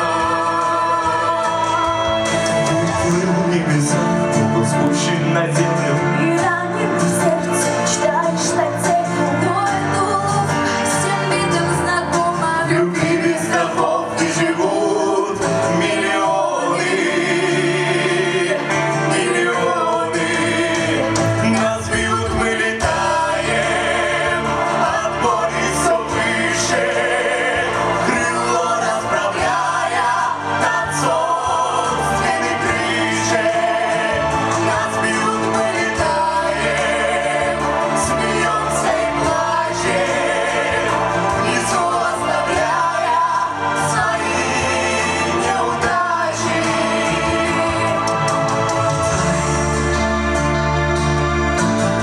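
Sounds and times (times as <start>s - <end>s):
vocal ensemble singing in chorus: 0.0s - 52.0s.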